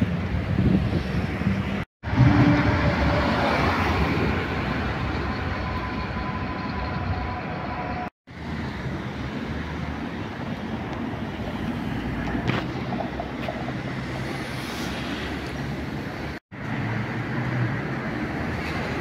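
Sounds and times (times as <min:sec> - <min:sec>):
traffic noise: 0:00.0 - 0:19.0
tram running on tracks: 0:00.0 - 0:19.0.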